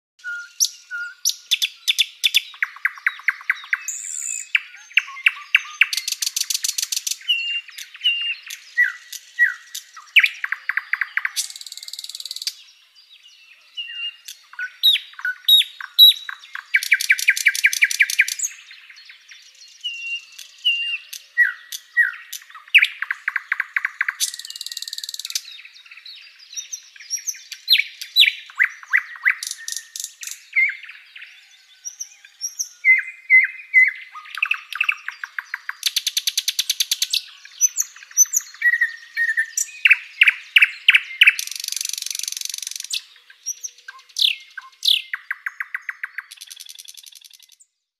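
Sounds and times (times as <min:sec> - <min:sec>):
songbird singing: 0:00.2 - 0:47.9.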